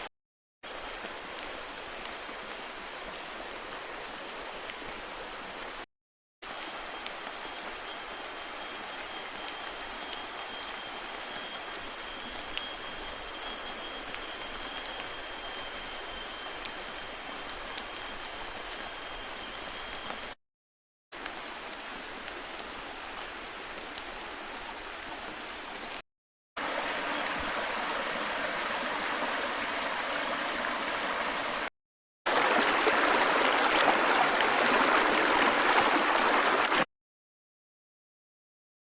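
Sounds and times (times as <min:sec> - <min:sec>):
steady rain in forest: 0:00.0 - 0:20.4, 0:21.1 - 0:26.0, 0:26.6 - 0:31.7, 0:32.3 - 0:36.9.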